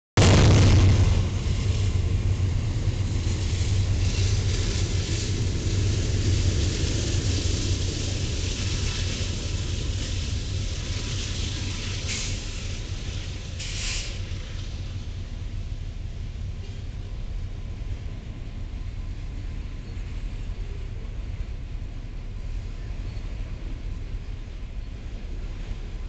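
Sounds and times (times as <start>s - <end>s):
freight train rumbling past: 0.2s - 26.0s.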